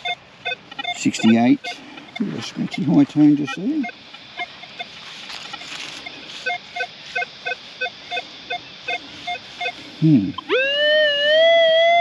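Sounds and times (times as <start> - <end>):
metal detector beeping: 0.0 - 12.0.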